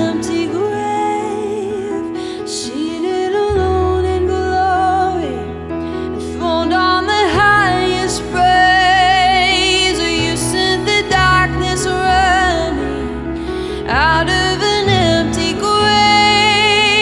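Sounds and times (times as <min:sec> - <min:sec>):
slow gentle worship music: 0:00.0 - 0:17.0.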